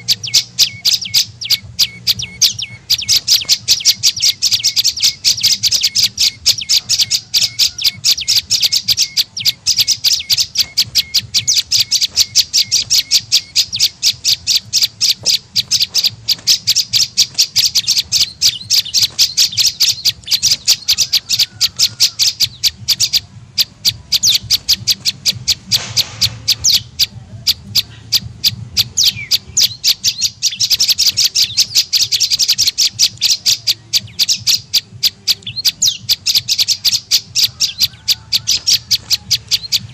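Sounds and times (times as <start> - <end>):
bird call harsh chattering: 0.0 - 39.9.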